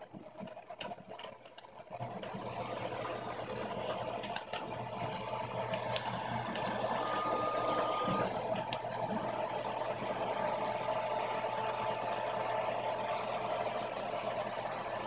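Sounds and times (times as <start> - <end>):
machine motor hum: 0.0 - 15.0
steady high whine: 0.0 - 15.0.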